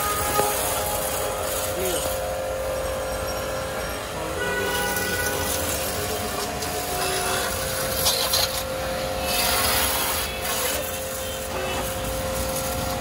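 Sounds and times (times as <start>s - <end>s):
water spray hiss: 0.0s - 2.3s, 4.7s - 13.0s
pressure washer motor: 0.0s - 13.0s.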